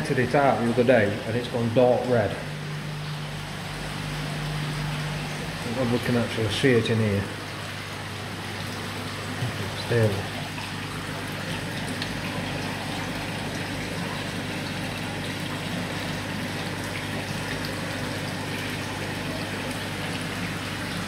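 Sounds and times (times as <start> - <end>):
pump hum: 0.0 - 21.0
rushing water: 0.0 - 21.0.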